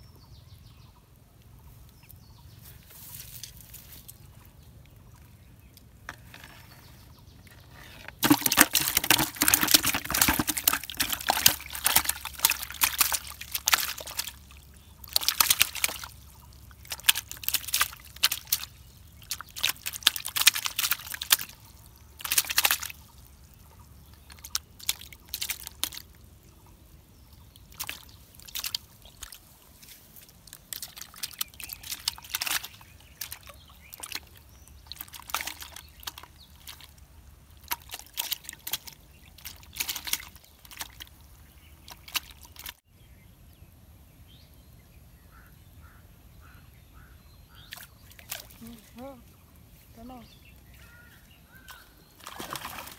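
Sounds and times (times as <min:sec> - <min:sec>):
fish splashing in a bucket: 0:03.2 - 0:42.8, 0:47.6 - 0:49.1, 0:51.5 - 0:52.9.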